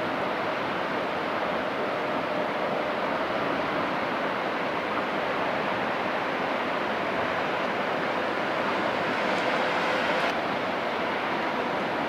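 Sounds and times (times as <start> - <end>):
water rushing from ship wash: 0.0 - 12.0.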